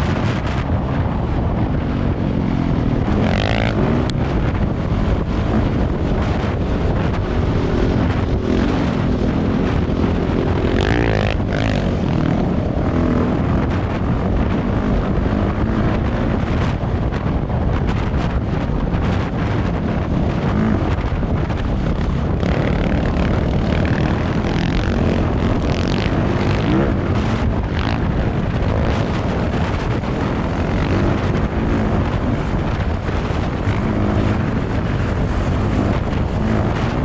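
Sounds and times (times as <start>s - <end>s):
wind buffeting microphone: 0.0s - 37.0s
engine revving: 2.5s - 16.8s, 19.0s - 37.0s.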